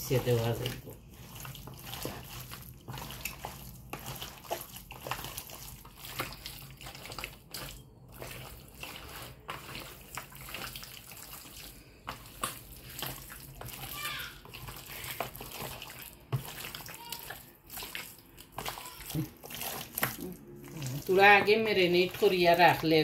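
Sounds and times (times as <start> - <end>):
hands squishing meat in marinade: 0.0 - 23.0.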